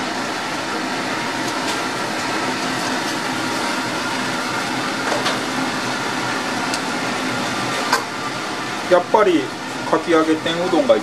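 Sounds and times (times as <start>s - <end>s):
mechanical hum: 0.0s - 11.0s
oil sizzling in a deep fryer: 0.0s - 11.0s.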